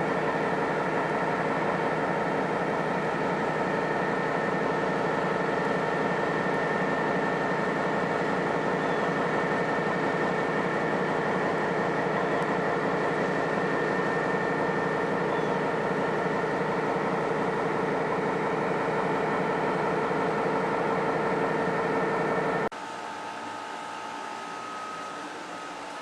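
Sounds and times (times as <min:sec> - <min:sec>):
diesel locomotive engine running: 0:00.0 - 0:26.0
steady whine: 0:00.0 - 0:26.0.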